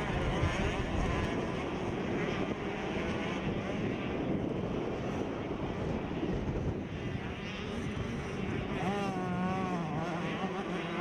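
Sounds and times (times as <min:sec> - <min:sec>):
motocross bikes racing: 0:00.0 - 0:06.0, 0:07.1 - 0:11.0.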